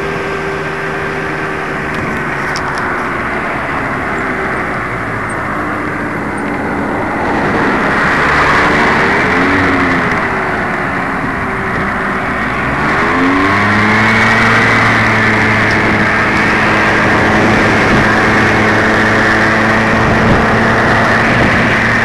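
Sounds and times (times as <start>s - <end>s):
motorbike engine running: 0.0s - 22.0s
wind rushing over microphone: 0.0s - 22.0s.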